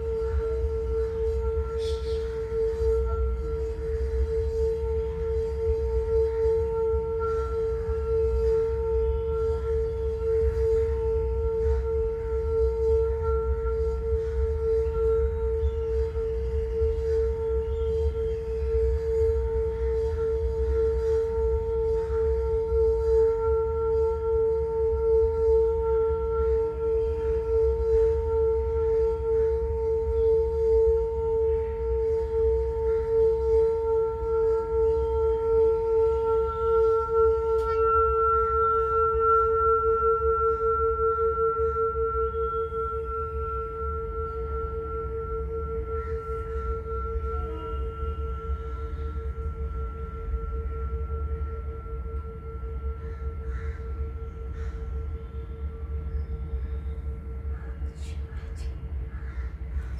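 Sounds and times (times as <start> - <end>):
singing bowl tone: 0.0 - 59.9.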